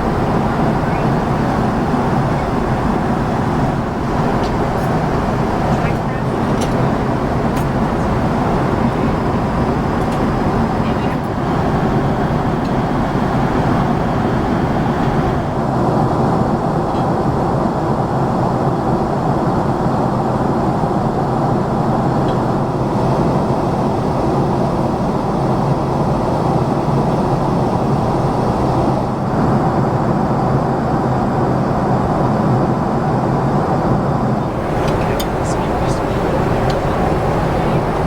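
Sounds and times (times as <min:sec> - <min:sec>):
airliner cabin engine and airflow din: 0:00.0 - 0:38.0.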